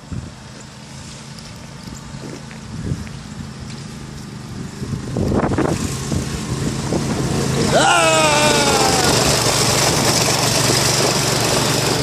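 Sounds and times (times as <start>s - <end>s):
go-kart engine running: 0.6s - 12.0s.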